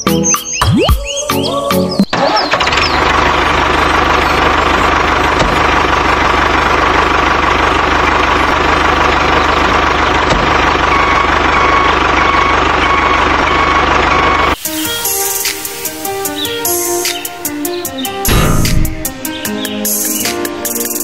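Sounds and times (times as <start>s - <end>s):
tractor engine idling: 2.5s - 19.4s.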